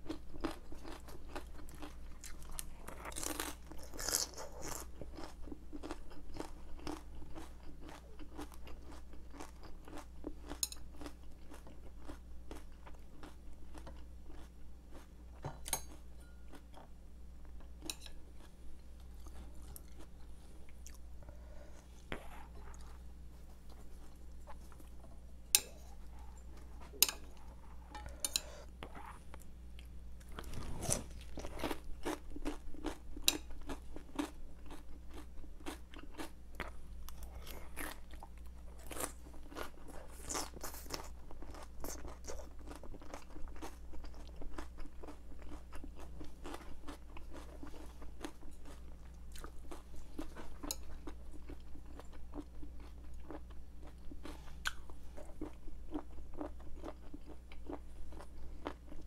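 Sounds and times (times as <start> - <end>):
chewing crisp raw vegetables: 0.0 - 17.0, 17.6 - 59.0.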